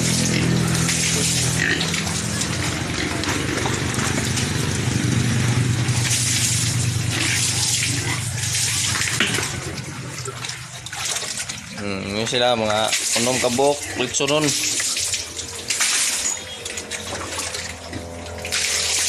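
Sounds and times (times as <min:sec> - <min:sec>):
water gushing from hose: 0:00.0 - 0:19.0.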